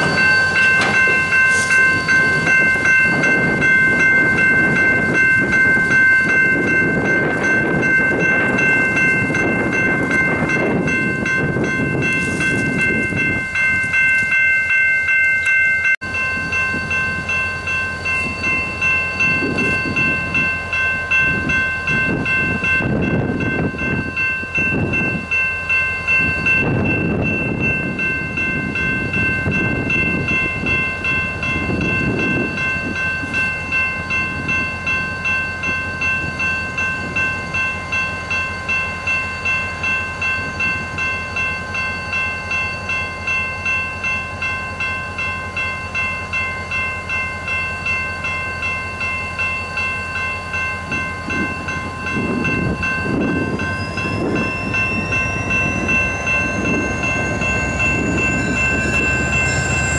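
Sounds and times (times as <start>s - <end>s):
diesel locomotive rumbling: 0.0s - 59.9s
railroad crossing bell ringing: 0.0s - 59.9s.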